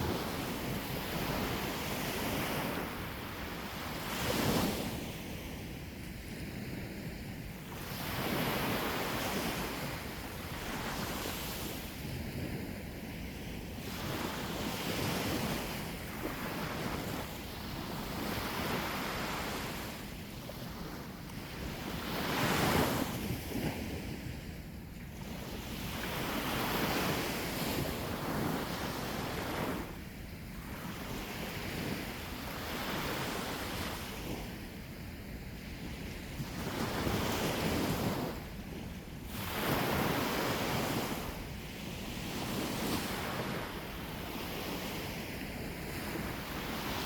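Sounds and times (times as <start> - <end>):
sea waves washing ashore: 0.0 - 47.0
wind on microphone: 0.0 - 47.0.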